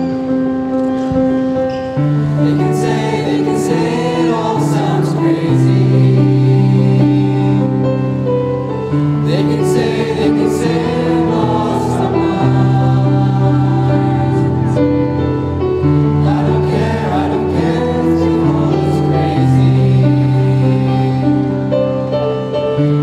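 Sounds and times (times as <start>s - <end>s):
choir singing in harmony: 1.9s - 23.0s.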